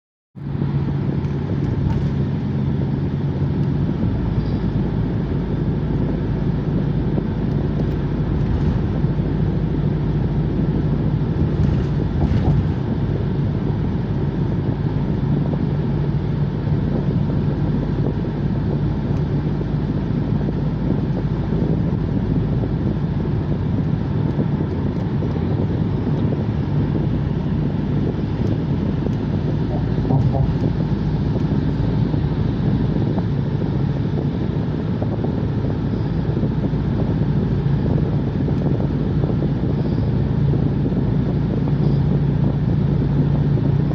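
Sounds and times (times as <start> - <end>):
car engine and road noise: 0.4 - 43.9.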